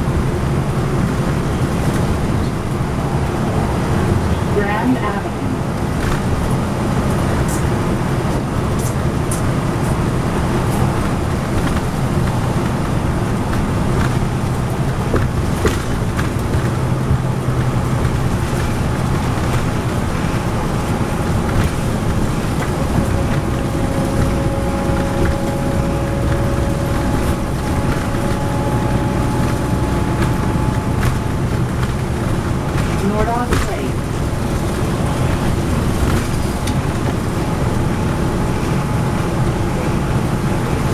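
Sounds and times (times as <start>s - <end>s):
bus diesel engine drone: 0.0s - 40.9s
road and tyre noise: 0.0s - 40.9s.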